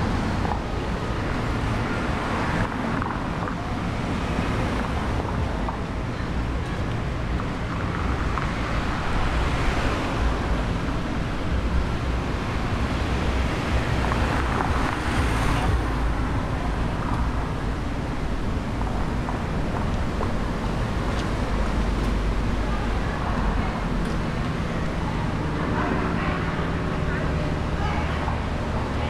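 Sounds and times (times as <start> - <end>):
street traffic road noise: 0.0 - 29.0.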